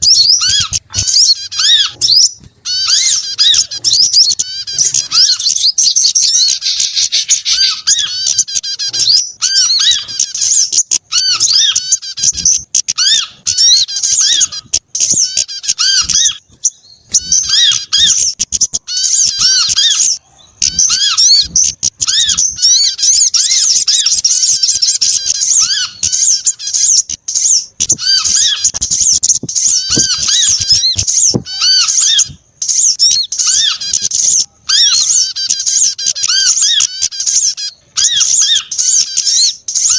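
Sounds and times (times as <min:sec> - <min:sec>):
songbirds chirping and chattering: 0:00.0 - 0:39.9.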